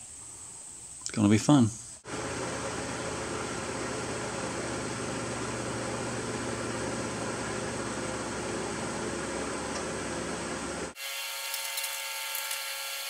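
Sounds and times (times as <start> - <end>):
electric fan whirring: 2.0 - 13.0.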